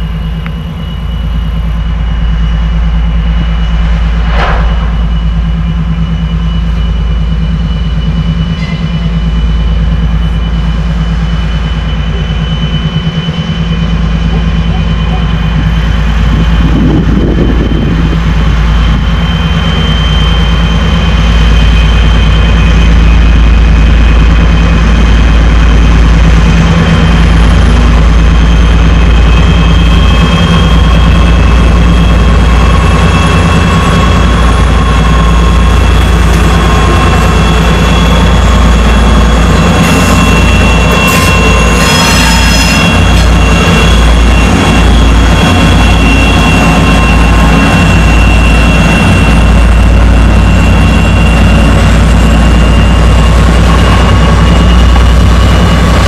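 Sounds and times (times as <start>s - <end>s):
diesel locomotive engine rumble: 0.0s - 56.0s
wheels squealing on rails: 0.0s - 56.0s.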